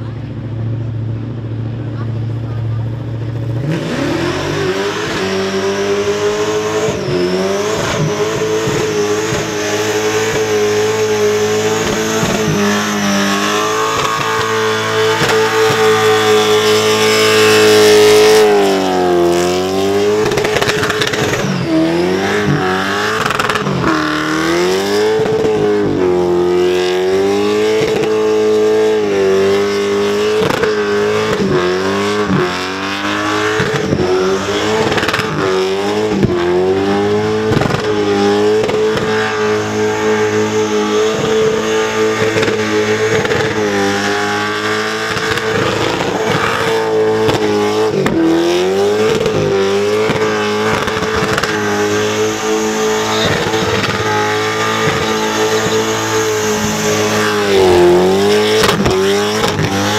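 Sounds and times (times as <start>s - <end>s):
engine at high revs: 0.0s - 59.9s.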